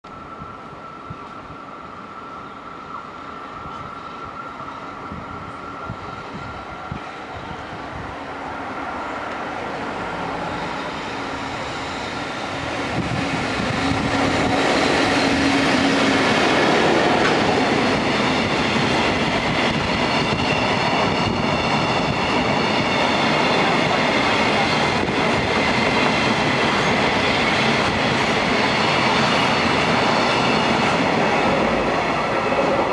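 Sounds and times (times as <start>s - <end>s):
freight train wheels on rails: 0.0s - 32.9s.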